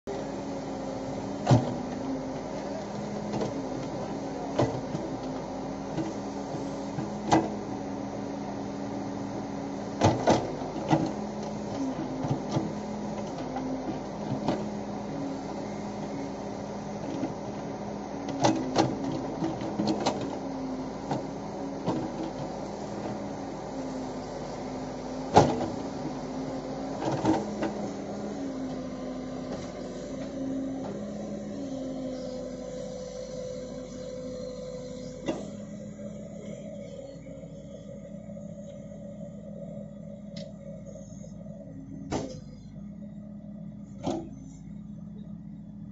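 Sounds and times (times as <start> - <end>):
backhoe diesel engine running: 0.1 - 45.9.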